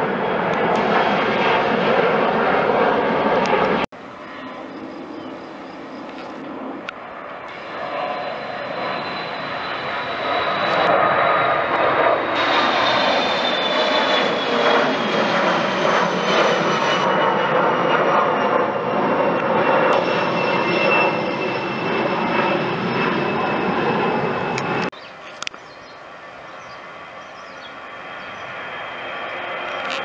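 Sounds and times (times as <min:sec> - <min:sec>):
jet engine roar with whine: 0:00.0 - 0:30.0.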